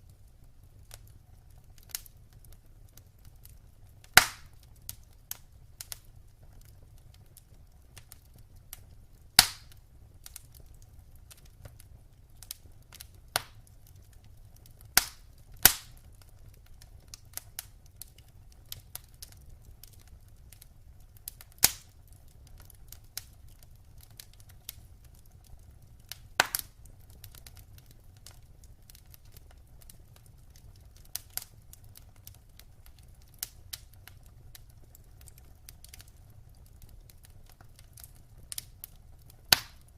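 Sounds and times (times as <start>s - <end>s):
wood fire crackling: 0.0s - 39.9s
loud fire pops: 1.7s - 20.2s, 21.2s - 24.8s, 26.0s - 39.9s.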